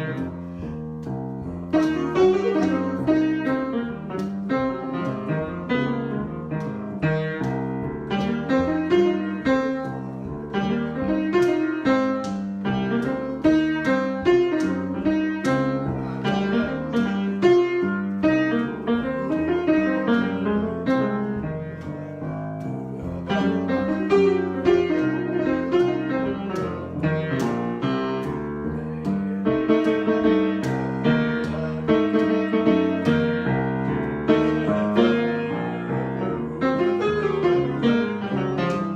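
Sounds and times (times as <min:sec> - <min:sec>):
solo piano improvisation: 0:00.0 - 0:38.9.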